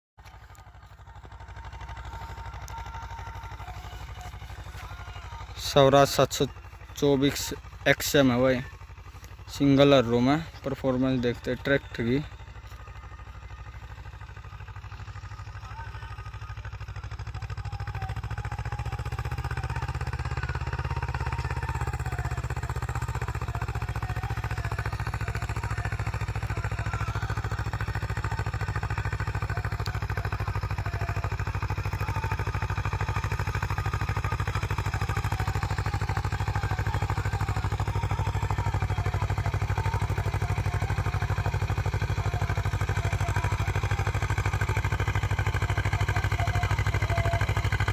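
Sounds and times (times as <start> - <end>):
tractor diesel engine under load: 0.2 - 47.9.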